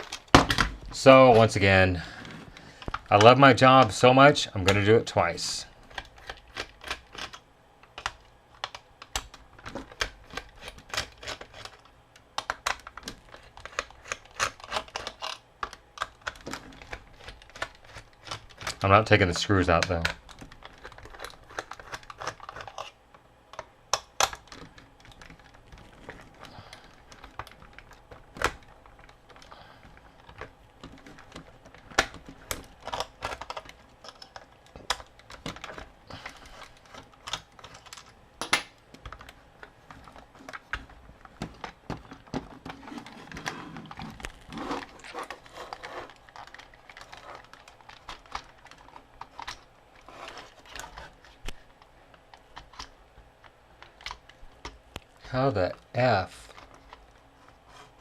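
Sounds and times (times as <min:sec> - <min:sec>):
plastic parts clicking and tapping: 0:05.9 - 0:55.4.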